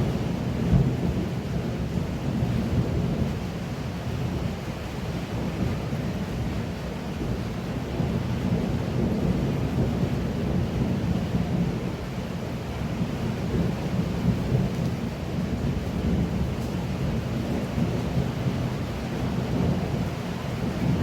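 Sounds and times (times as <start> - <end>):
heavy pouring rain: 0.0 - 21.0.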